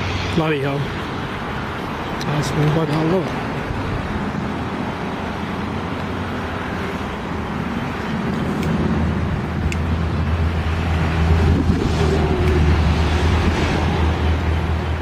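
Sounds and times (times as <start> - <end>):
low engine hum: 0.0 - 15.0
tyre and road noise: 0.0 - 15.0.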